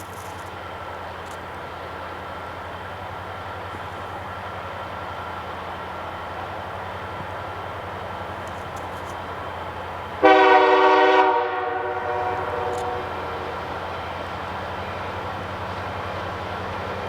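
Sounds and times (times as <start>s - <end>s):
diesel locomotives droning: 0.0s - 17.0s.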